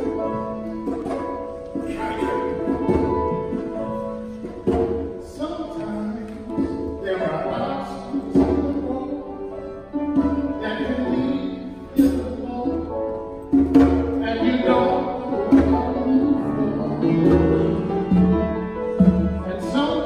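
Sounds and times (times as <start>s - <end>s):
gospel instrumental chords: 0.0s - 20.0s.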